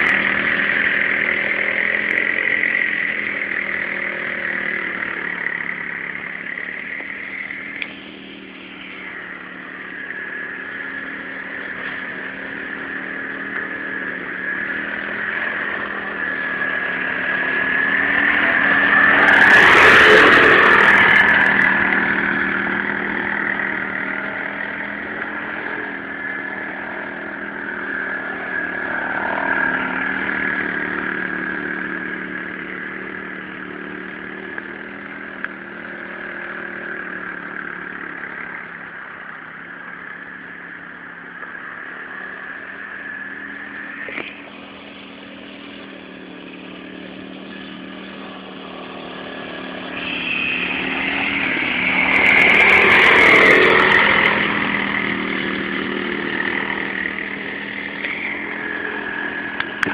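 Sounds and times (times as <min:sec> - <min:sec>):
quad bike engine passing: 0:00.0 - 0:59.9.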